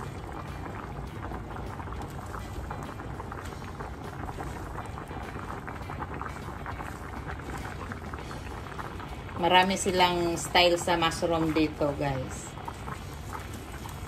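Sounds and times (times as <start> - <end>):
broth boiling and bubbling: 0.0 - 14.0.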